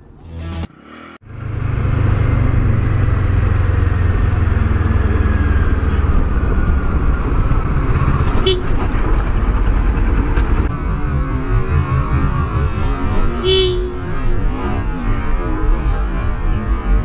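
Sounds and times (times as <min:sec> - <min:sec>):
motorcycle engine running: 0:01.2 - 0:17.0.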